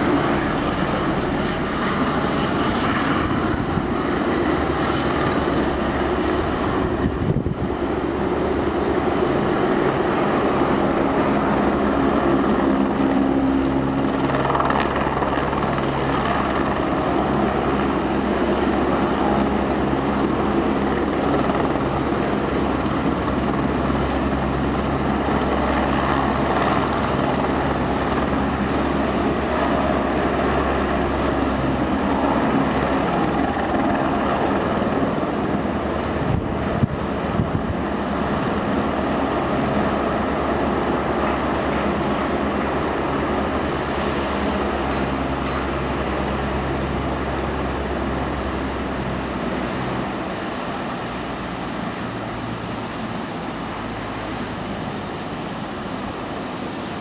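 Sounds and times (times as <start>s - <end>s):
helicopter rotor and engine: 0.0s - 57.0s.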